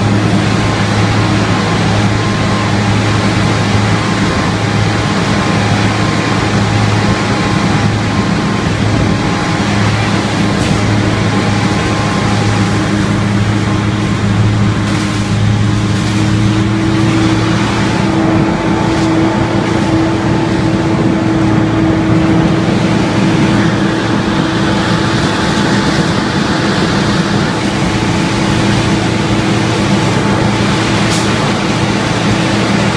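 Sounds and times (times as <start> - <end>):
large engine humming: 0.0 - 32.9.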